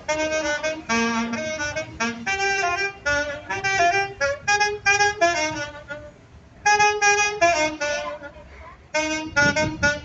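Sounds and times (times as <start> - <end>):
saxophone melody: 0.0 - 10.0.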